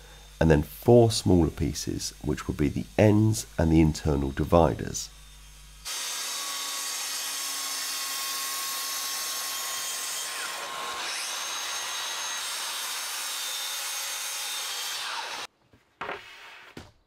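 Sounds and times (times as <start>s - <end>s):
track saw cutting: 0.0s - 15.5s.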